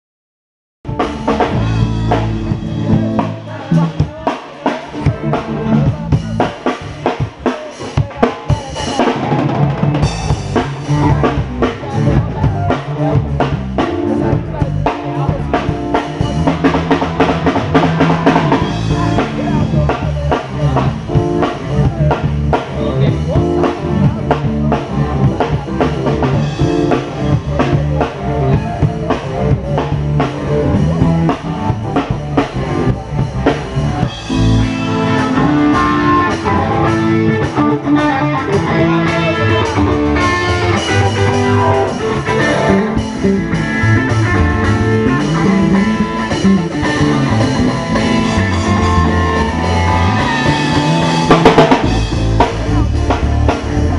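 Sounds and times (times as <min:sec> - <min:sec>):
drum kit: 0:00.8 - 0:53.9
guitar playing: 0:00.9 - 0:08.1, 0:08.7 - 0:53.9.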